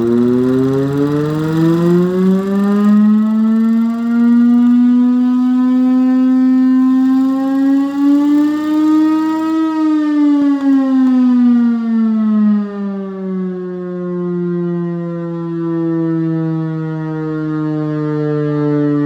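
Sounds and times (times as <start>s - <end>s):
air raid siren wailing: 0.0s - 19.0s.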